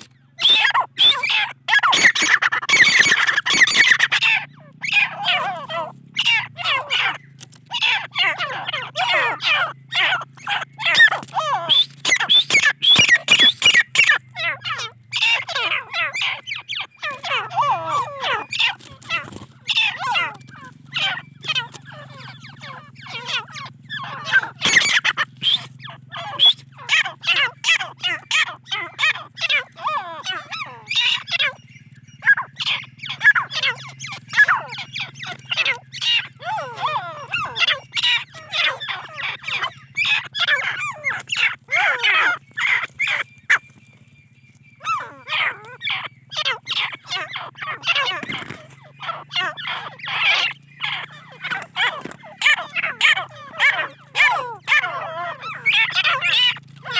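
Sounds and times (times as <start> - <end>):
chicks chirping and squeaking: 0.0 - 56.9.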